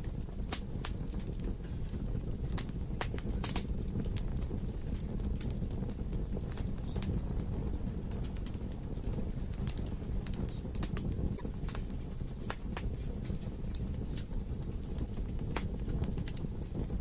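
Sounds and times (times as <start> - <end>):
burning wood crackling and popping: 0.0 - 17.0
low rumble of flame: 0.0 - 17.0.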